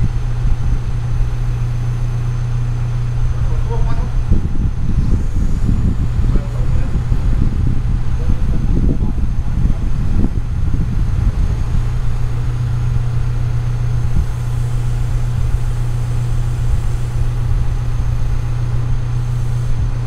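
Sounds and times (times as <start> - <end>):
crane engine droning: 0.0 - 20.0.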